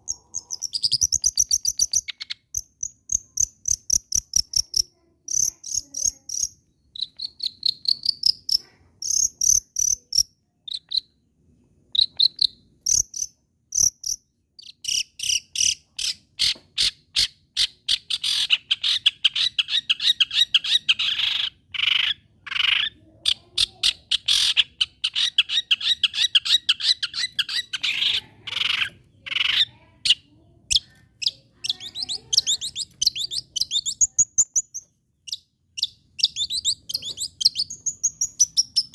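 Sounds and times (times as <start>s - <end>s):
bird chattering song: 0.0s - 11.2s, 11.9s - 38.9s.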